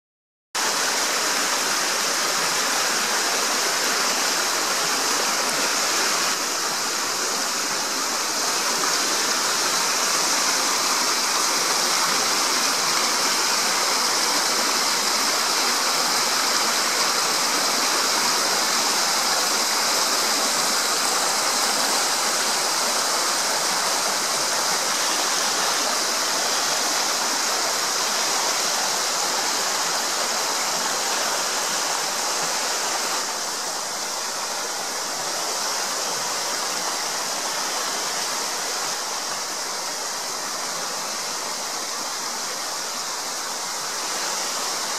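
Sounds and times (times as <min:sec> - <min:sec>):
stream running over stones: 0:00.6 - 0:44.9.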